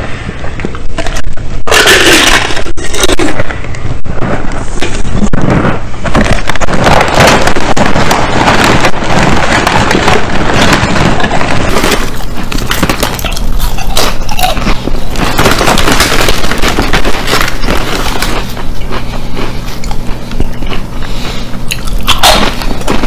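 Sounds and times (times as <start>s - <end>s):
crunching and chewing chips: 0.6s - 3.6s, 4.2s - 23.0s
plastic chip bag crinkling: 4.2s - 23.0s.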